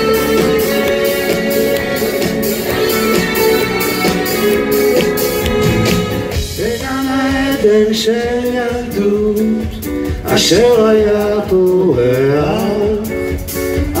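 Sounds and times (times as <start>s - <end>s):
live band playing guitars and drums: 0.0s - 14.0s.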